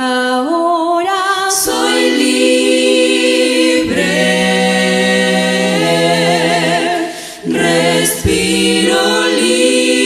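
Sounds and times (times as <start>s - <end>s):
women singing a cappella in harmony: 0.0s - 10.0s.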